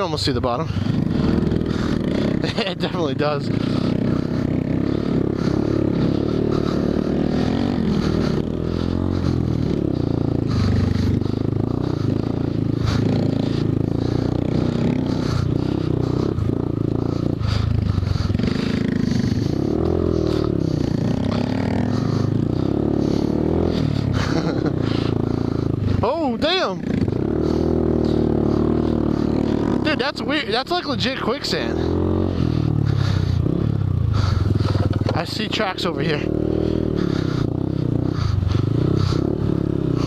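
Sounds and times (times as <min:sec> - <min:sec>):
small motorcycle engine running: 0:00.0 - 0:40.0.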